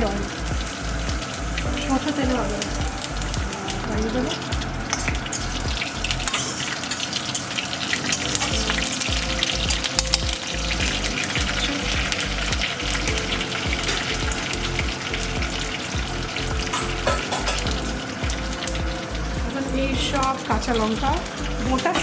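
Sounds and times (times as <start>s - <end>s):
seeds sizzling in hot oil: 0.0s - 22.0s.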